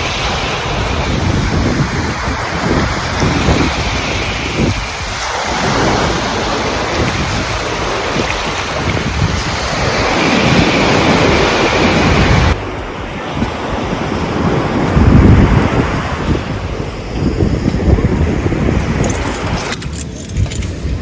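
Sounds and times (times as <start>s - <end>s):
ocean surf breaking: 0.0s - 20.0s
wind buffeting microphone: 0.0s - 21.0s.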